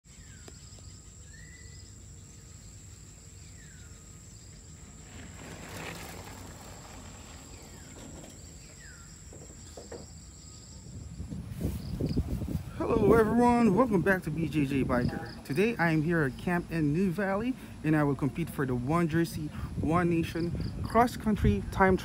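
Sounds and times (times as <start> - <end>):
low wind rumble: 1.3 - 22.0.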